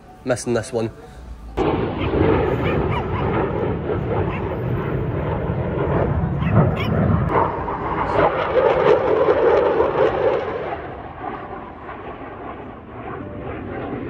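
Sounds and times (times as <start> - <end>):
jet flying low overhead: 0.0 - 14.0.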